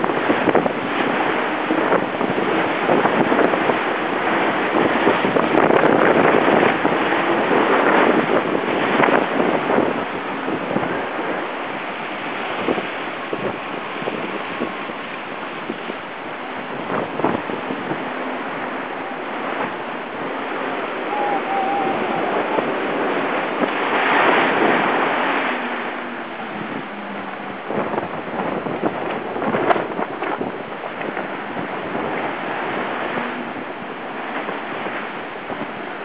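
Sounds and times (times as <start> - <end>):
water rushing along hull: 0.0 - 36.0
wind on microphone: 0.0 - 36.0.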